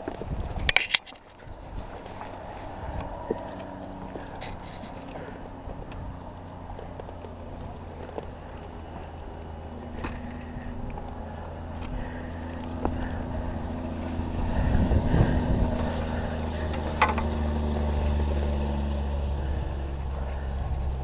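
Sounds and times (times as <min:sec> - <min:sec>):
motor droning: 0:00.0 - 0:21.0.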